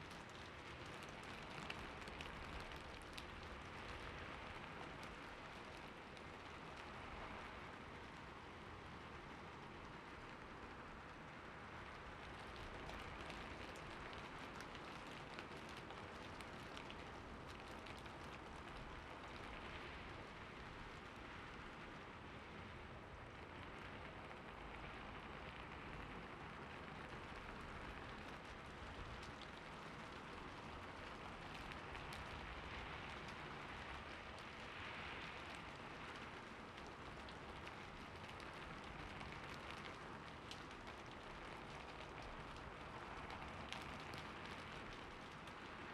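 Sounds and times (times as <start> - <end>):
light rain falling: 0.0 - 45.9.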